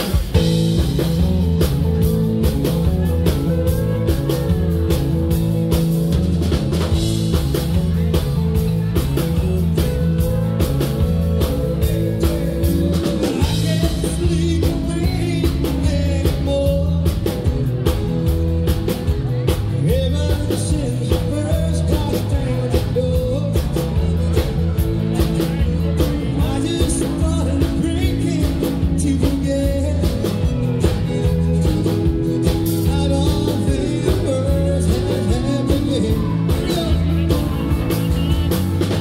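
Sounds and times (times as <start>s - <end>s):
live country-rock band playing: 0.0s - 39.0s.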